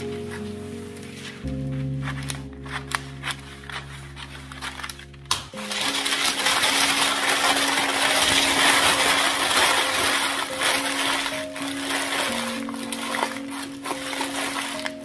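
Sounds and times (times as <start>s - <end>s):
background music: 0.0s - 15.0s
paper crinkling and rustling: 0.0s - 15.0s.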